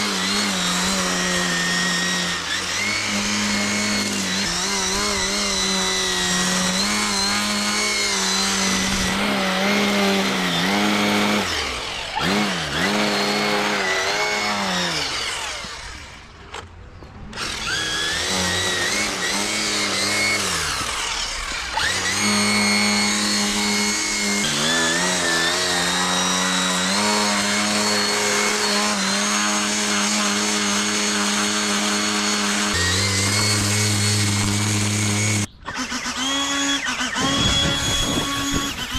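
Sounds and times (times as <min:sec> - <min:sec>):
lawn edger cutting concrete edge: 0:00.0 - 0:38.9.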